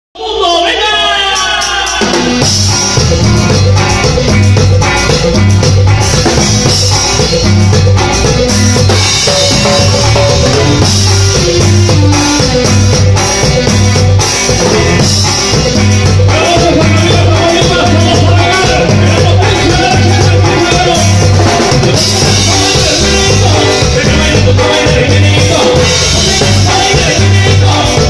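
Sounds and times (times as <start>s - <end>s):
drum kit beat: 1.2s - 28.0s
electric bass guitar: 2.1s - 28.0s.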